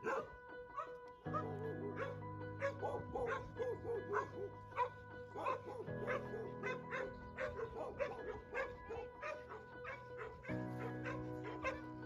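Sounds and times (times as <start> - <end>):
background music with held chords: 0.0 - 12.0
dog yips and whimpers: 0.0 - 12.0.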